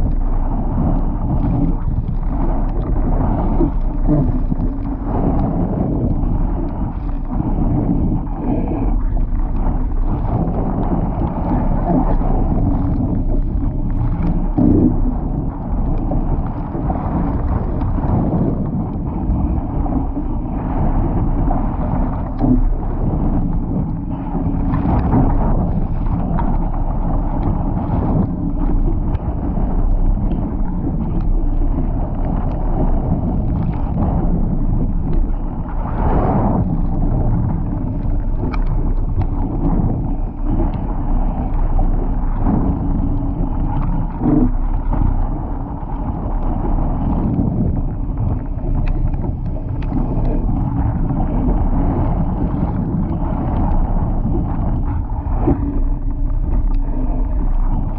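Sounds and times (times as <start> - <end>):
water splashing along hull: 0.0 - 57.9
wind buffeting microphone: 0.0 - 57.9.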